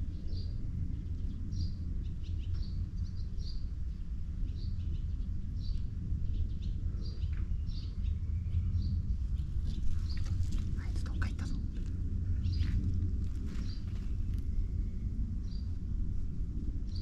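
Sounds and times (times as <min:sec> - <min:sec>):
low rumble: 0:00.0 - 0:17.0
small bird chirping: 0:00.2 - 0:14.7.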